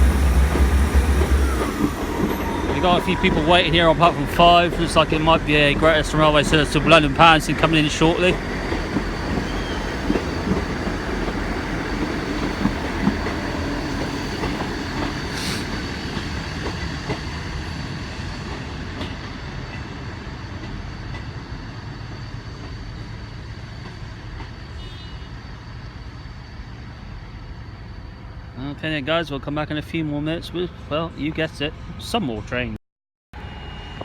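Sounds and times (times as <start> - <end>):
train passing: 0.0 - 32.8.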